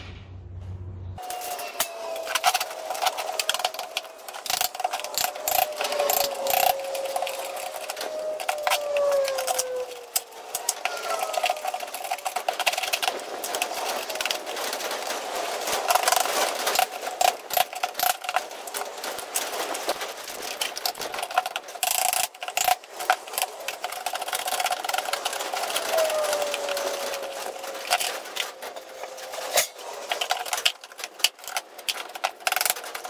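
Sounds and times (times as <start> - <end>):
metal scraping and rattling: 0.0 - 33.0.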